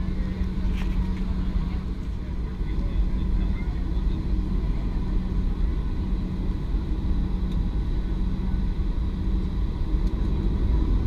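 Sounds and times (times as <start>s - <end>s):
faint engine whine: 0.0s - 11.0s
jet engine rumble in cabin: 0.0s - 11.0s.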